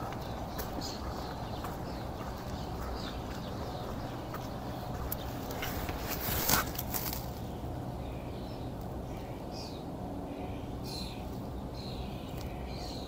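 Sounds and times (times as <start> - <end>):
low city rumble: 0.0 - 13.0
small birds chirping: 0.0 - 13.0.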